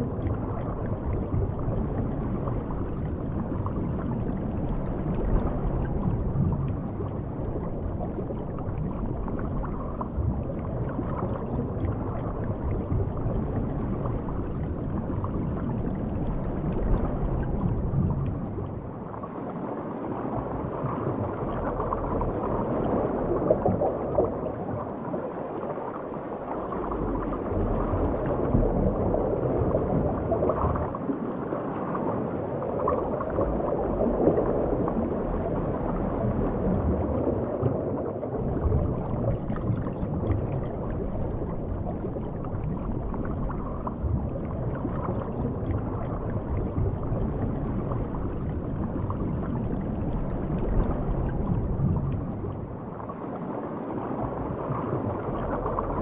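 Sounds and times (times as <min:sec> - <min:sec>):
faint underwater crackle: 0:00.0 - 0:56.0
muffled underwater wash: 0:00.0 - 0:56.0.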